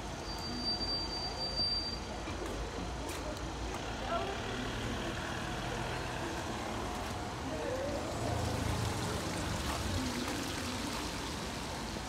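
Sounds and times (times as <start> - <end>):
passing traffic: 0.0 - 12.0
tyres hissing on road: 0.1 - 12.0.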